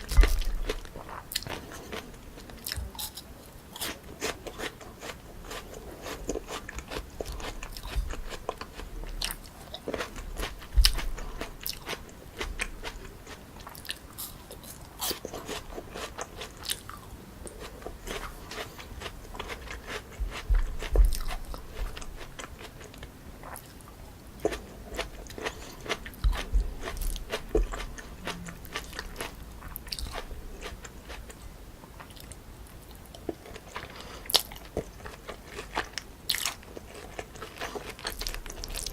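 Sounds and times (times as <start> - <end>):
crunchy eating and wet chewing: 0.0 - 38.9.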